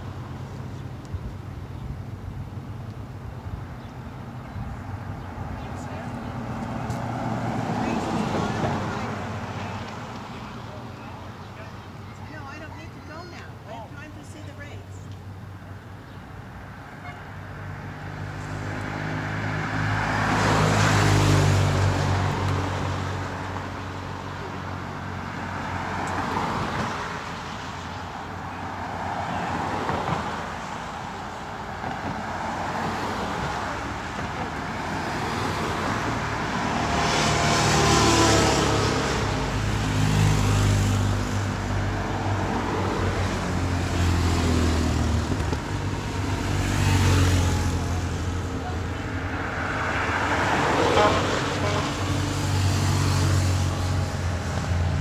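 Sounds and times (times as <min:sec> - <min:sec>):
cars driving past: 0:04.0 - 0:13.4, 0:14.1 - 0:55.0.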